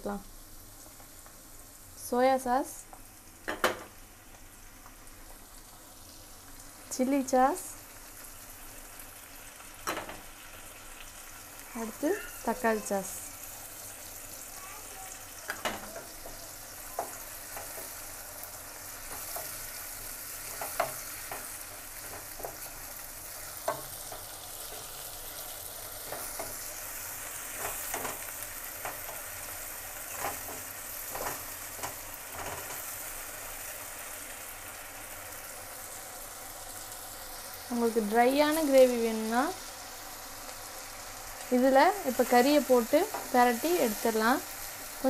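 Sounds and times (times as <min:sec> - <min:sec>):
vegetables sizzling in a wok: 0:00.0 - 0:45.0.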